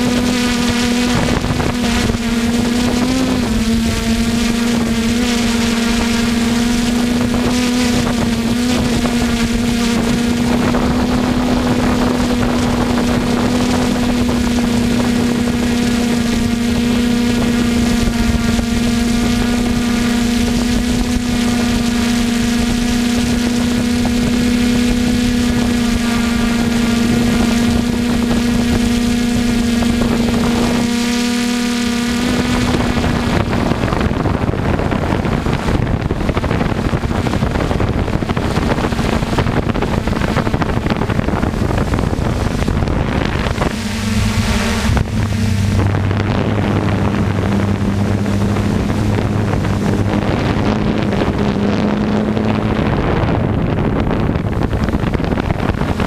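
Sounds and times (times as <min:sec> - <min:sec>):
drone motors buzzing: 0:00.0 - 0:56.0
wind noise on microphone: 0:00.0 - 0:56.0.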